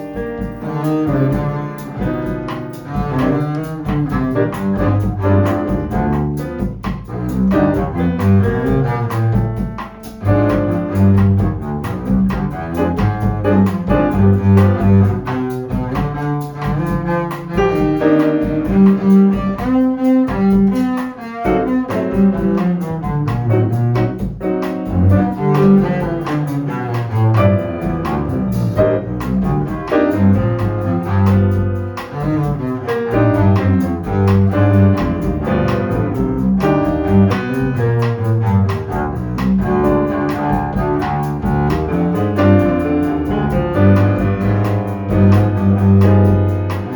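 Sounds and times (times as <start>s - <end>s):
double bass line: 0.0s - 46.9s
jazz ensemble playing: 0.0s - 46.9s.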